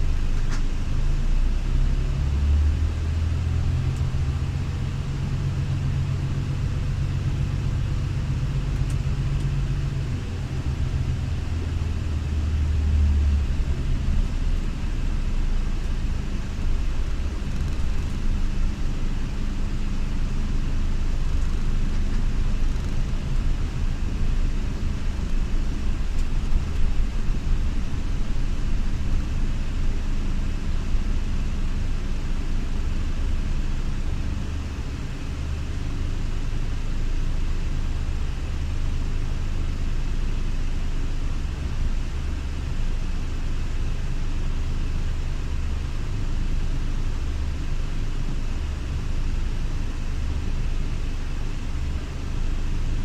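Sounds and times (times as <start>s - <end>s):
diesel engine low rumble: 0.0s - 53.0s.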